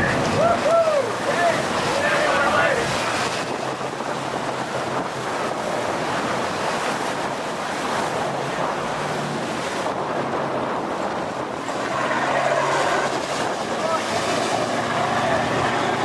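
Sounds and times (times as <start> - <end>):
boat engine hum: 0.0 - 16.0
water washing against boat: 0.0 - 16.0
wind buffeting microphone: 0.0 - 16.0.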